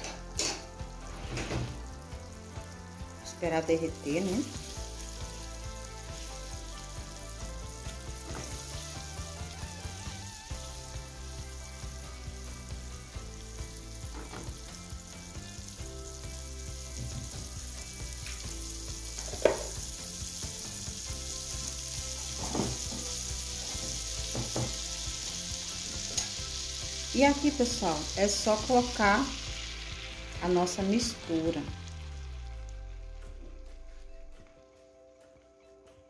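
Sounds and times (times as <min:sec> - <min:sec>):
margarine sizzling in frying pan: 0:00.0 - 0:33.1.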